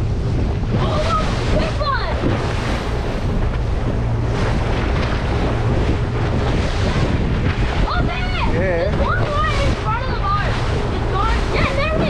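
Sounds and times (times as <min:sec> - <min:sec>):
low engine drone: 0:00.0 - 0:12.0
water splashing off hull: 0:00.0 - 0:12.0
wind buffeting microphone: 0:00.0 - 0:12.0.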